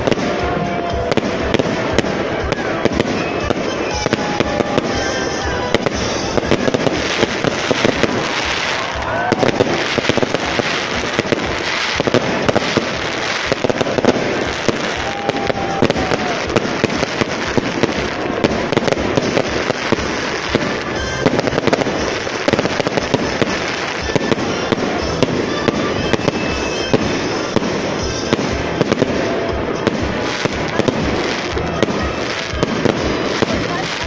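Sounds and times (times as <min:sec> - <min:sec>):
firework whistles: 0:00.0 - 0:34.0
fireworks crackling and banging: 0:00.0 - 0:34.0.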